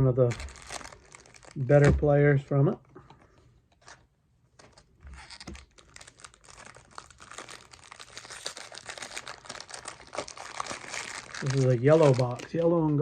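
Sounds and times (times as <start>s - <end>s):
card packs crinkling: 0.0s - 2.2s, 3.1s - 13.0s.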